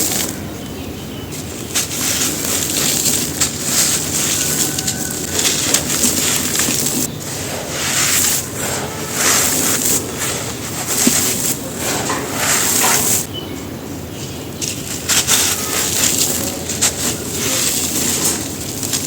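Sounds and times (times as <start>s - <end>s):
dry dirt crunching: 0.0s - 19.0s.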